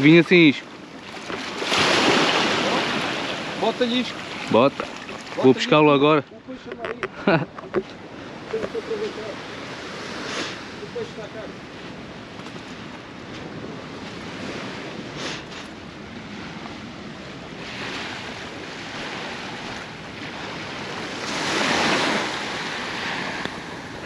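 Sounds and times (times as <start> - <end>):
sea surf washing onto beach: 0.0 - 24.0
wind: 0.0 - 24.0.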